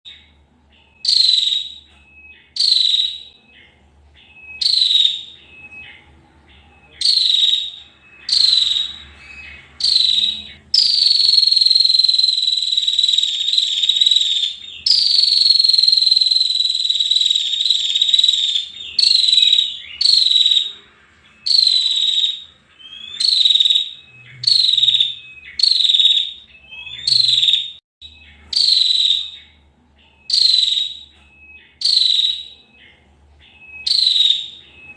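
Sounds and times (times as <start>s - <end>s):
bird buzzy trilling calls: 0.1s - 34.9s.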